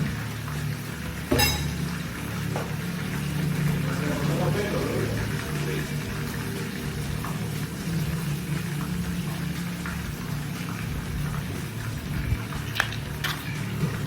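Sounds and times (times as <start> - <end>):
hot oil sizzling in a pan: 0.0 - 14.0.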